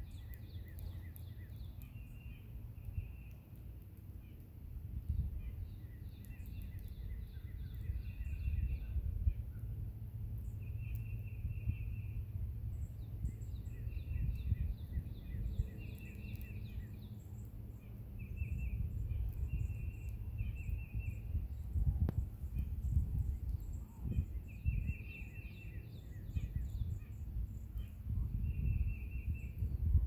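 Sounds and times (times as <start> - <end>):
songbirds singing: 0.0 - 30.0
low rumble: 4.7 - 30.0.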